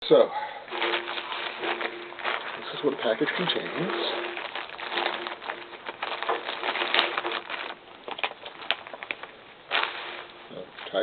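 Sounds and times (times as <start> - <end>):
plastic packaging crinkling: 0.7 - 11.0.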